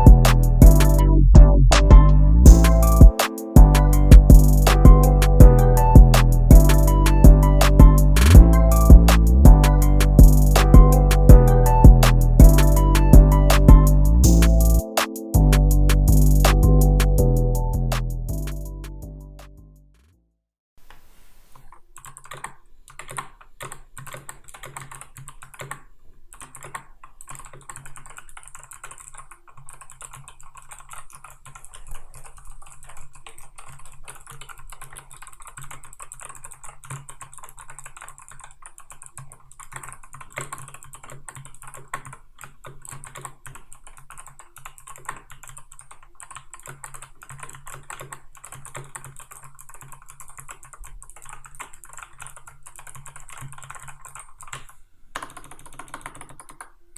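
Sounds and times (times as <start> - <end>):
mechanical keyboard typing: 2.6 - 17.2, 22.0 - 56.8.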